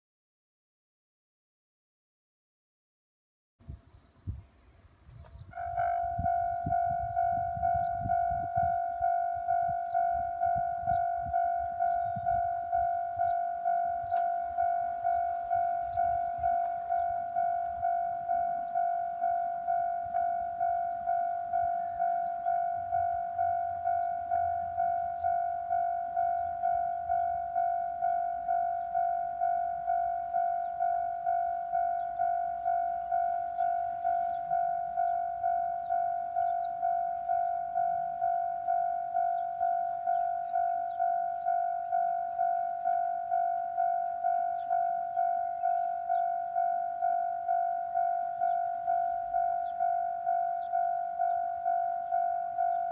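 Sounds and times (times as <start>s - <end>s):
level crossing bell ringing: 5.6s - 52.9s.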